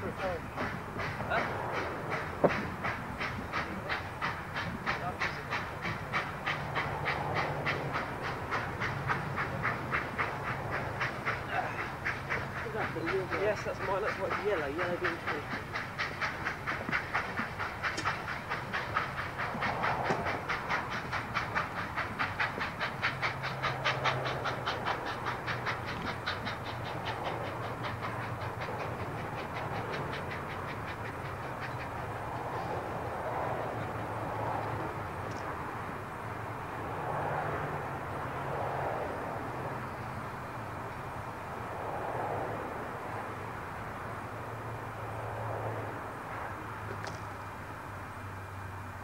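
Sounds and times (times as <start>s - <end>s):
low train rumble: 0.0s - 49.0s
steam locomotive exhaust beats: 0.0s - 49.0s.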